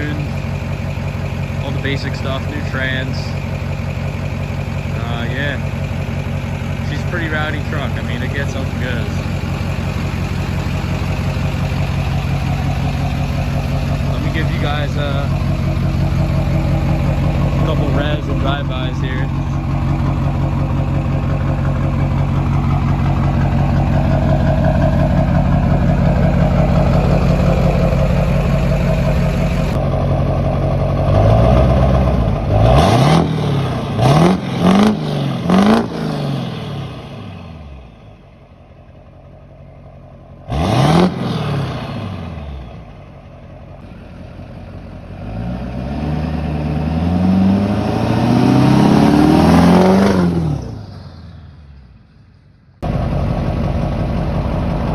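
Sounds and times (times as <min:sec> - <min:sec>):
engine revving: 0:00.0 - 0:38.0, 0:40.4 - 0:42.9, 0:45.1 - 0:51.6
diesel engine idling loudly: 0:00.0 - 0:54.9
truck accelerating: 0:00.0 - 0:54.9.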